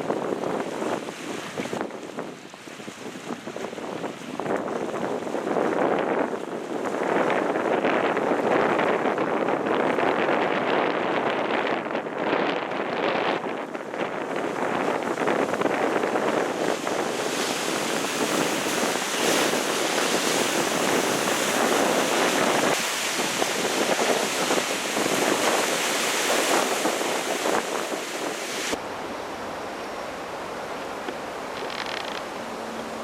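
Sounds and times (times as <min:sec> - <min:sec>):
waves: 0:00.0 - 0:33.0
wind on microphone: 0:00.0 - 0:33.0.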